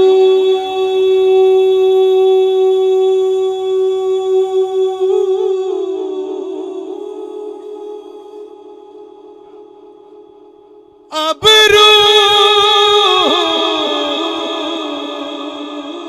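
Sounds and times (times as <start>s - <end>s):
man singing long note: 0.0s - 9.7s, 11.1s - 16.0s.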